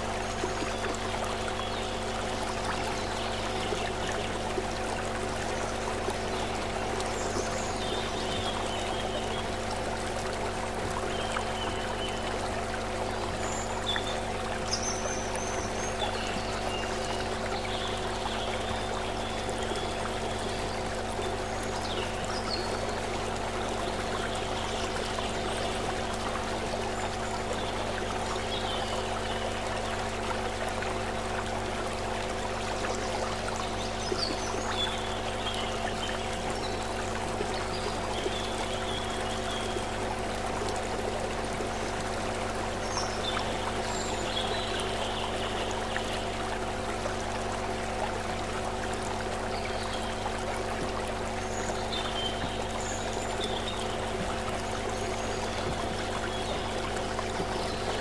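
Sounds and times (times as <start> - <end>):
low hum of held tones: 0.0 - 58.0
stream water over stones: 0.0 - 58.0.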